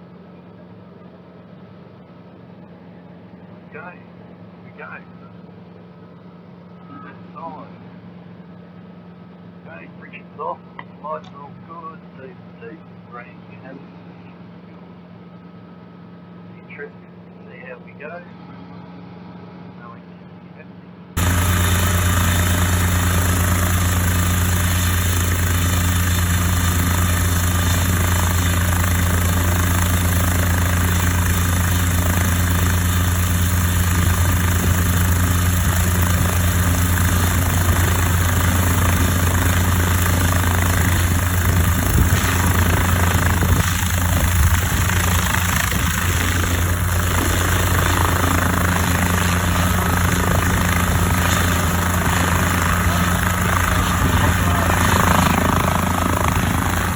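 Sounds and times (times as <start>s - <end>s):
helicopter hum: 0.0s - 56.9s.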